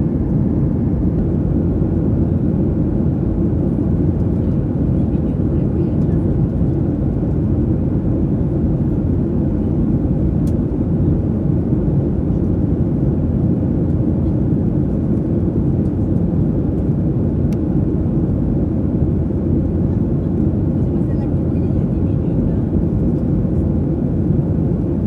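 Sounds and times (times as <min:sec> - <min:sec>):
airliner cabin roar: 0:00.0 - 0:25.0.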